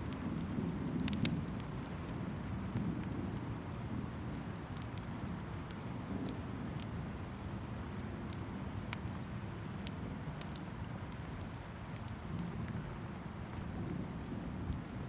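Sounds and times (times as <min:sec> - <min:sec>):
rain pattering: 0:00.0 - 0:15.0
wood fire popping: 0:00.0 - 0:15.0.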